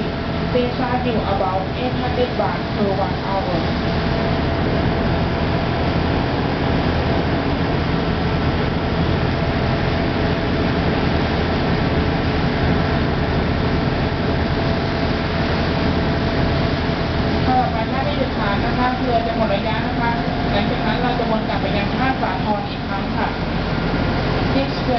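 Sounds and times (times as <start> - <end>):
boat engine running: 0.0 - 24.9
water rushing along hull: 0.0 - 24.9.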